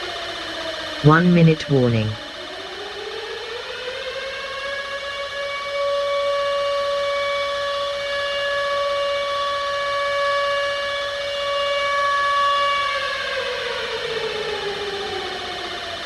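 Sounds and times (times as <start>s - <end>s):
air-raid siren: 0.0s - 16.0s.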